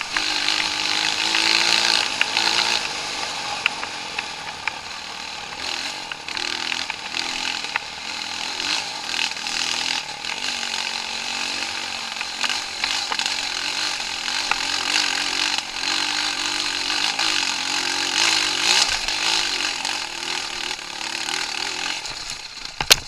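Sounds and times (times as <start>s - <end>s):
steady harsh hiss: 0.0s - 22.9s
off-road vehicle engine: 0.0s - 23.0s.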